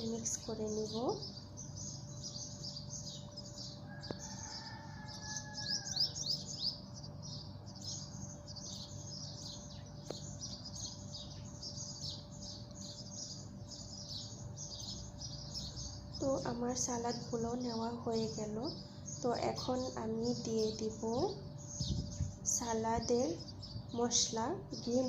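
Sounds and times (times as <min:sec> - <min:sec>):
faint steady hum: 0:00.0 - 0:25.0
small birds chirping: 0:00.0 - 0:25.0.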